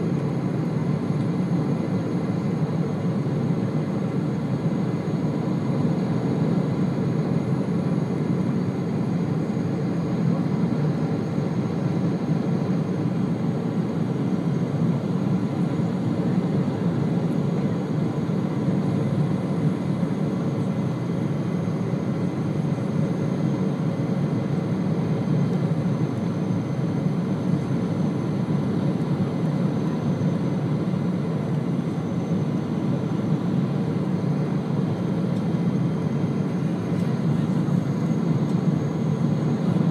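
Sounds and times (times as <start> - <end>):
jet cabin engine rush: 0.0 - 39.9.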